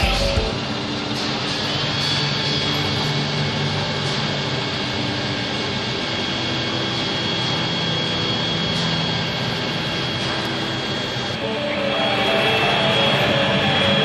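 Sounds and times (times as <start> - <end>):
machine hiss whine and hum: 0.0 - 14.0.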